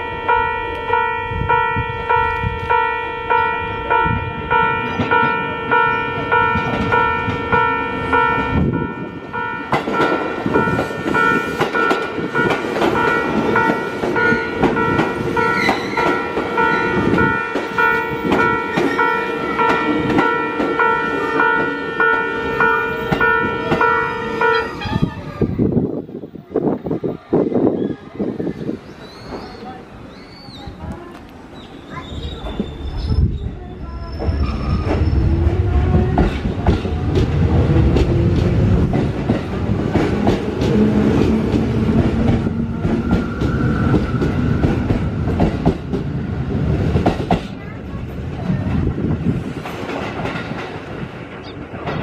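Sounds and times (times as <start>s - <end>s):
rail clicks: 0.0s - 52.0s
train wheels rumbling: 0.0s - 52.0s.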